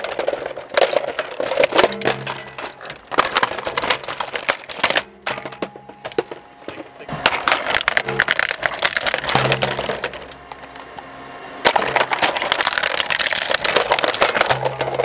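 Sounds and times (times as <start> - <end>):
shredder crunching plastic: 0.0 - 10.8, 11.6 - 15.0
shredder motor hum: 0.0 - 15.0.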